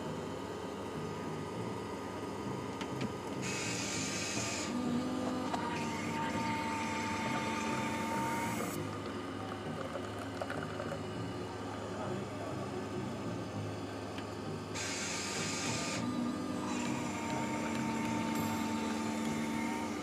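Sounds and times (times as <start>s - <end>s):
coffee machine humming: 0.0s - 20.0s
coffee machine whirring whine: 0.0s - 20.0s
coffee machine hissing: 1.7s - 20.0s.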